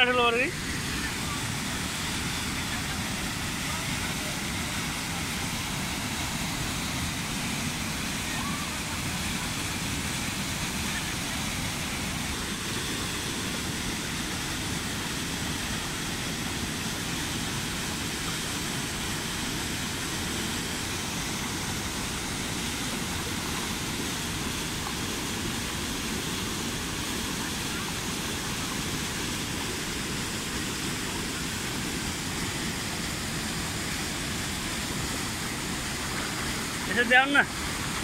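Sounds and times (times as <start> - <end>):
whitewater rushing: 0.0 - 38.0.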